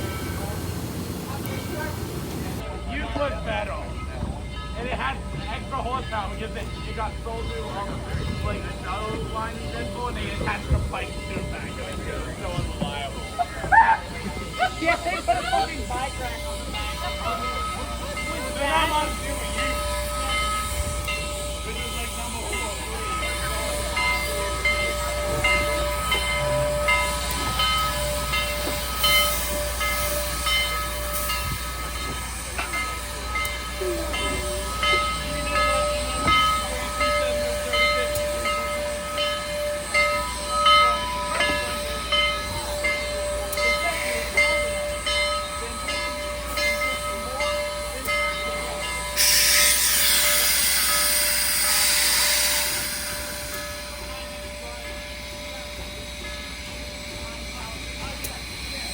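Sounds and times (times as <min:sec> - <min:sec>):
train clacks and knocks: 0:00.0 - 0:58.9
train wheel squeal: 0:06.2 - 0:58.9.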